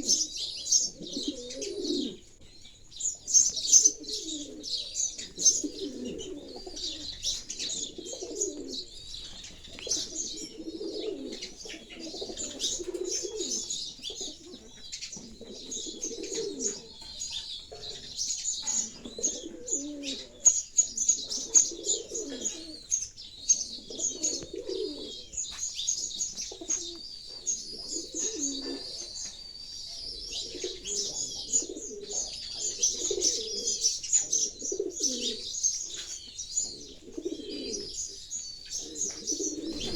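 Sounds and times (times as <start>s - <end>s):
pigeons cooing: 0.0s - 39.9s
sparrows chirping: 0.0s - 39.9s.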